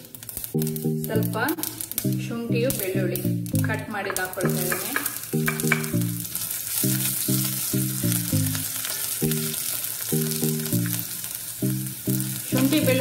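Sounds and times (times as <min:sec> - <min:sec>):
ginger and garlic sizzling in oil: 0:00.0 - 0:13.0
light tune of repeating notes: 0:00.6 - 0:13.0.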